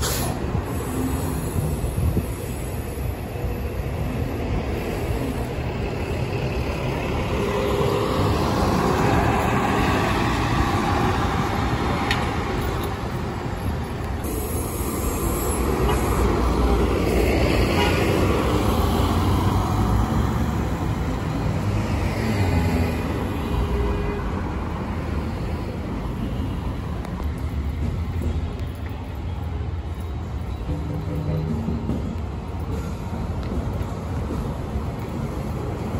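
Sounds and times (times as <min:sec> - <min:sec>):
bus driving off: 0:00.0 - 0:35.9
cars passing: 0:00.0 - 0:35.9.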